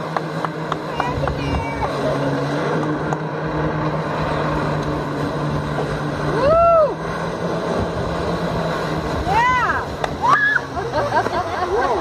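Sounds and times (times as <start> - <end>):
jet ski engine running: 0.0 - 12.0
rising and falling tone: 2.0 - 12.0.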